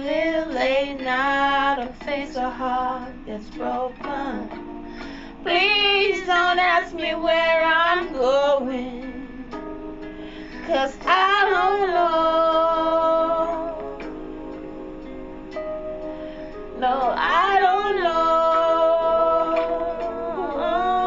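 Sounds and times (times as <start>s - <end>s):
woman singing: 0.0s - 4.7s, 5.4s - 9.6s, 10.5s - 14.4s, 16.8s - 21.0s
soft instrumental backing: 0.0s - 21.0s.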